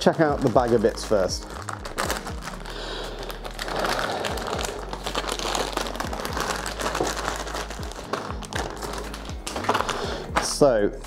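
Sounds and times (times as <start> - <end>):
plastic bag crinkling: 0.0 - 10.7
background music with bass: 0.0 - 11.0.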